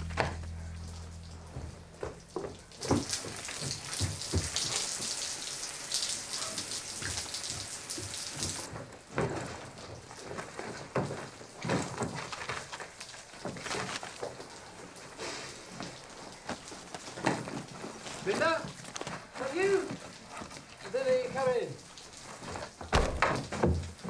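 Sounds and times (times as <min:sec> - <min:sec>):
shower water spraying: 0:00.0 - 0:08.7, 0:13.1 - 0:24.0.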